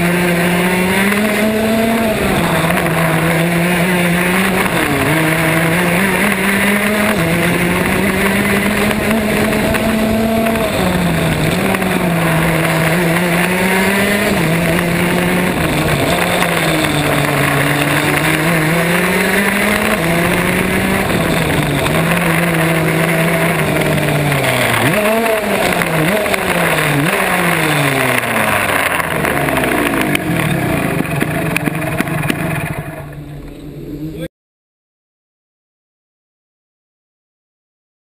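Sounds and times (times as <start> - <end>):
kart engine revving: 0.0 - 34.2.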